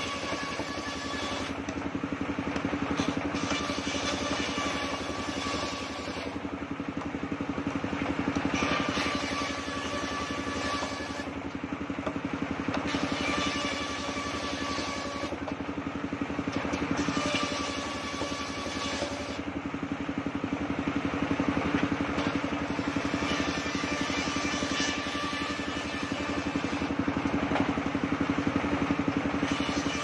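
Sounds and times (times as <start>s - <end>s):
circular saw cutting wood: 0.0s - 19.7s, 21.8s - 27.8s, 28.8s - 30.0s.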